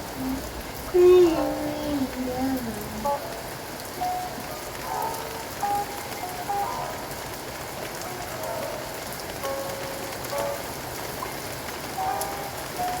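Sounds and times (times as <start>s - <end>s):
rain falling: 0.0s - 13.0s
soft melody notes: 0.0s - 13.0s.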